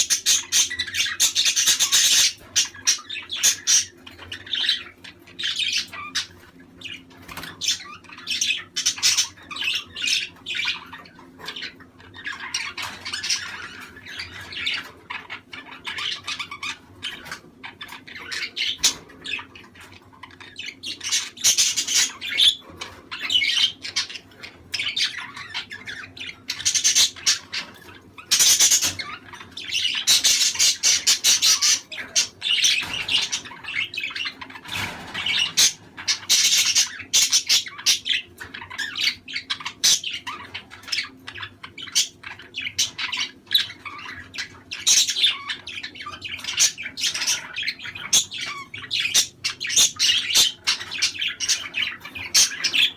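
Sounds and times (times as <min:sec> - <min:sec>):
budgerigars chattering and squawking: 0:00.0 - 0:52.9.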